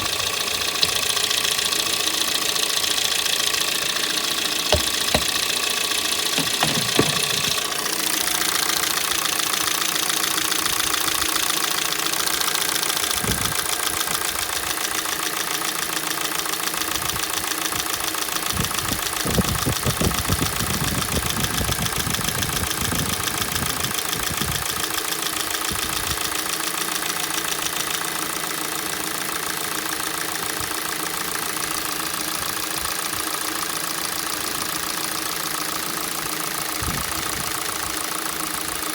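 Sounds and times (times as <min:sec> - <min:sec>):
engine idling with knocking: 0:00.0 - 0:38.9.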